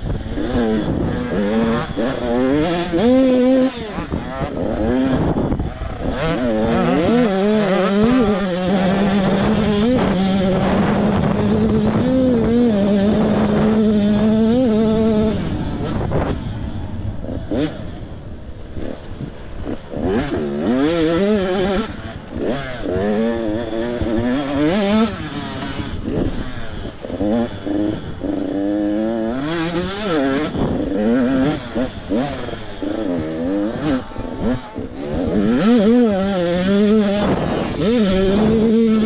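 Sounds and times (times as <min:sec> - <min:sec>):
motorbike engines revving: 0:00.0 - 0:39.0.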